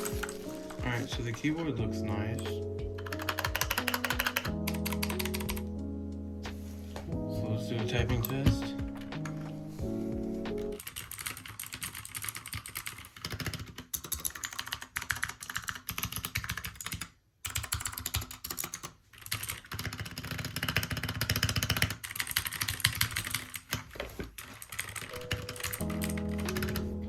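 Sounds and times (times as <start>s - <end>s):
fast typing on mechanical keyboard: 0.0s - 5.7s, 10.8s - 26.9s.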